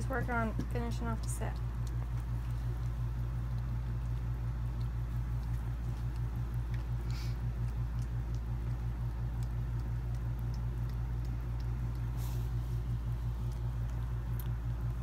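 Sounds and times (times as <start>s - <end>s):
dog licking puppies: 0.0s - 15.0s
fast-pulsing low hum: 0.0s - 15.0s.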